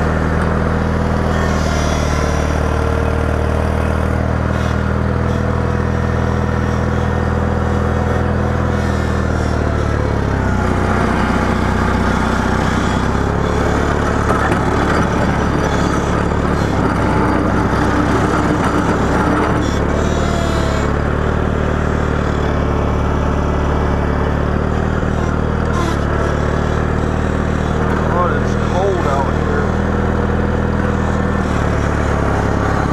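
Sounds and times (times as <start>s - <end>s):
small tractor engine running: 0.0s - 32.9s.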